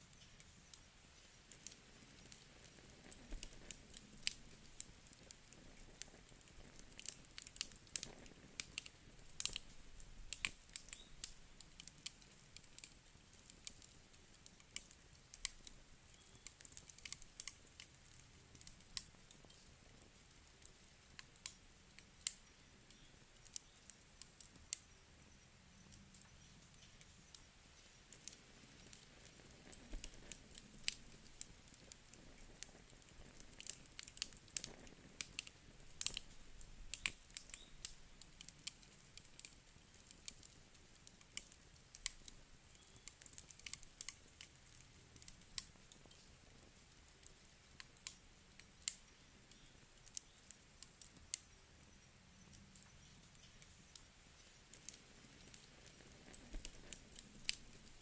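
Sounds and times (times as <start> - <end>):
wood crackling in a fireplace: 0.0 - 58.0.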